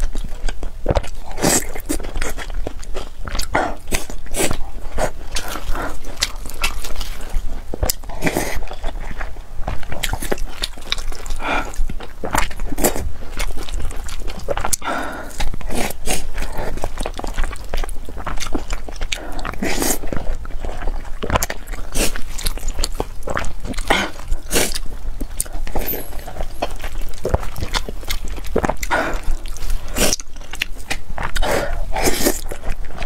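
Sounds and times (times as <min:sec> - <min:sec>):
person chewing wetly: 0:00.0 - 0:33.0.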